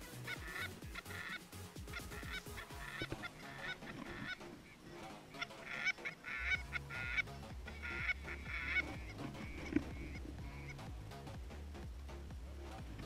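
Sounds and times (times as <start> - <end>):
geese honking: 0.0 - 13.0
low steady hum: 1.8 - 13.0.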